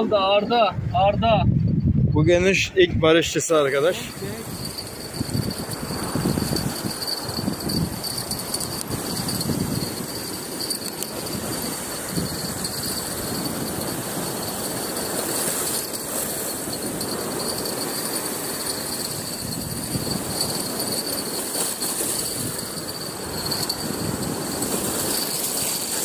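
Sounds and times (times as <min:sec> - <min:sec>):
crickets trilling: 0:03.3 - 0:26.0
sea surf on beach: 0:03.4 - 0:26.0.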